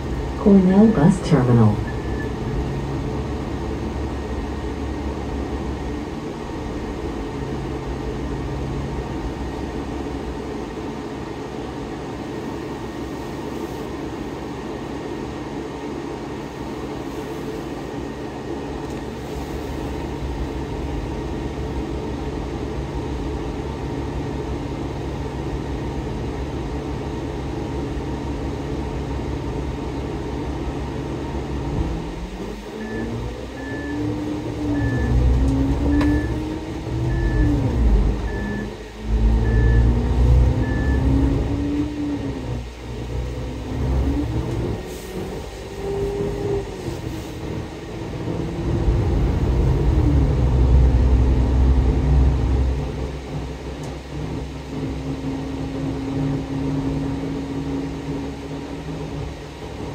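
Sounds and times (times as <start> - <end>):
diesel bus engine idling: 0.0 - 44.0, 44.7 - 59.9.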